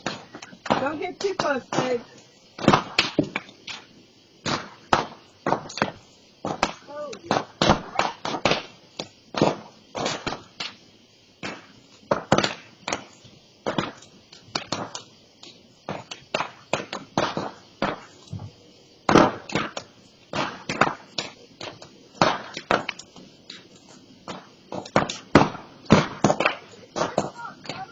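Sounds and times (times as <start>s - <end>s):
fire crackling and popping: 0.0s - 27.9s.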